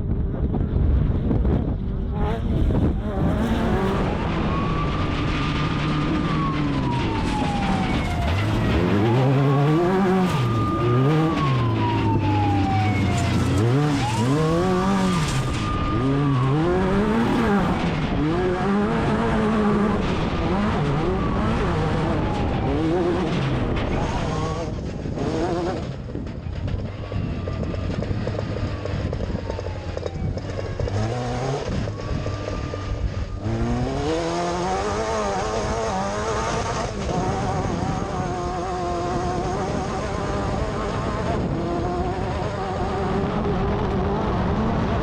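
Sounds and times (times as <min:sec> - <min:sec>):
wind and dirt noise: 0:00.0 - 0:45.0
race buggy engine revving: 0:01.8 - 0:45.0.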